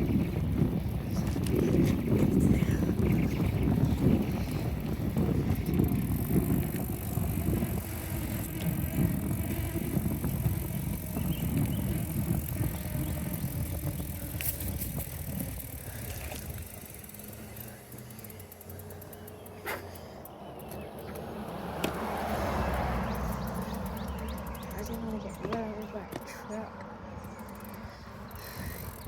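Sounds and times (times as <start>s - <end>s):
wind rumble on microphone: 0.0s - 18.4s, 20.5s - 29.0s
bicycle tyre road noise: 0.0s - 29.0s.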